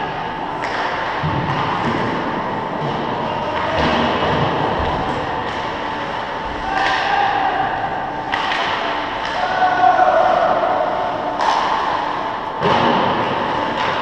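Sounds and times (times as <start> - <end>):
pucks and sticks hitting boards: 0.0 - 14.0
steady hall hum: 0.0 - 14.0.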